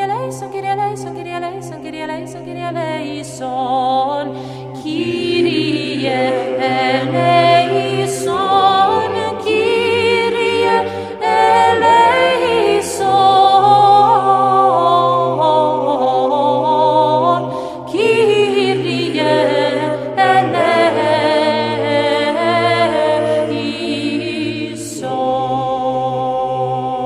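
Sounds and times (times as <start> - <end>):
low held vocal drone: 0.0 - 27.0
voices chanting with vibrato: 0.0 - 27.0.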